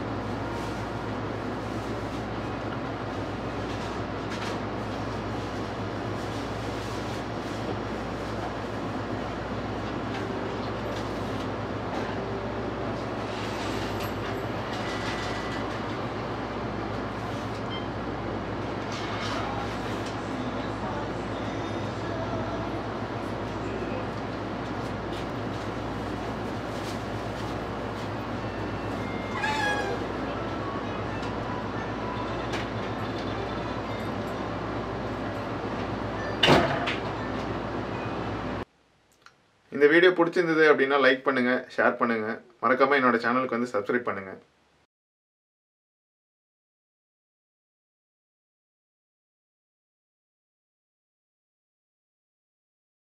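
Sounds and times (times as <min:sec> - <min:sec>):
machinery hum and hiss: 0:00.0 - 0:44.9.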